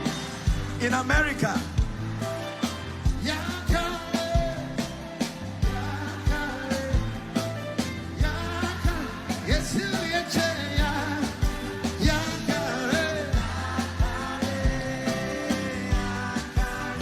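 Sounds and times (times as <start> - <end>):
band with steady drum beat: 0.0 - 17.0
person singing: 3.2 - 17.0.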